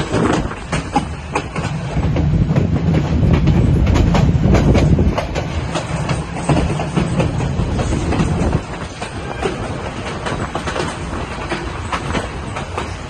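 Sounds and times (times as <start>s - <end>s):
train rumbling on rails: 0.0s - 13.0s
wheels clattering over track: 0.0s - 13.0s.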